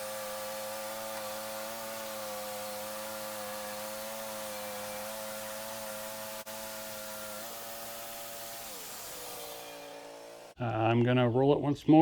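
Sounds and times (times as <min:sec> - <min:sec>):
small engine humming: 0:00.0 - 0:10.6.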